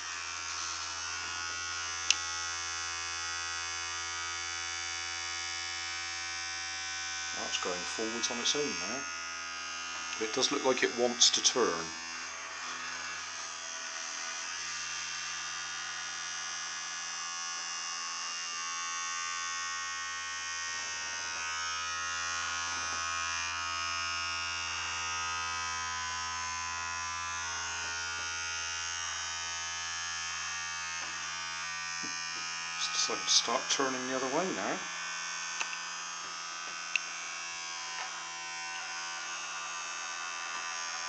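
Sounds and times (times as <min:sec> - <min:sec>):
toothbrush motor buzzing on foil: 0:00.0 - 0:41.0.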